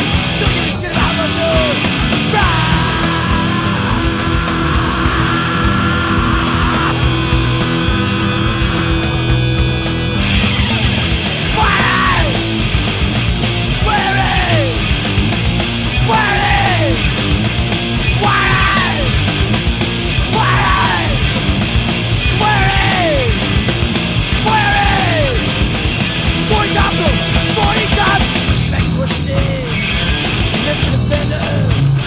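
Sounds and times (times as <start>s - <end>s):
hardcore punk band playing: 0.0s - 32.0s.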